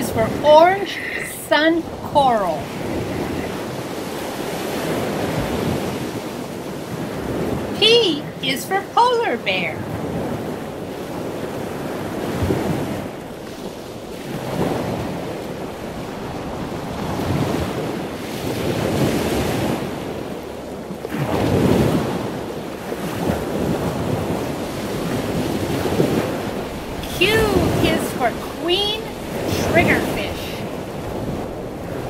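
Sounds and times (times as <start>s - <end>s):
ocean waves rushing: 0.0s - 32.0s.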